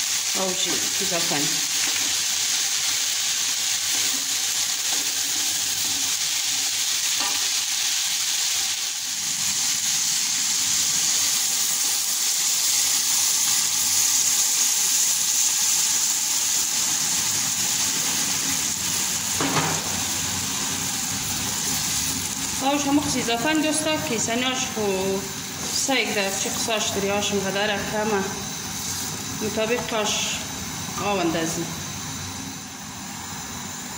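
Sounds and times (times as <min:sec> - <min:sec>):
beans sizzling in oil: 0:00.0 - 0:33.9.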